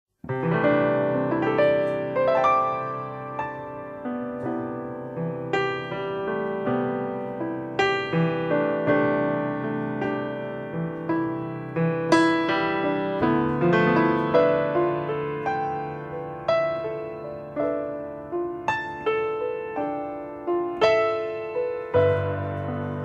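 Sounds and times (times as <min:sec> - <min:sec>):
slow solo piano music: 0:00.2 - 0:23.0.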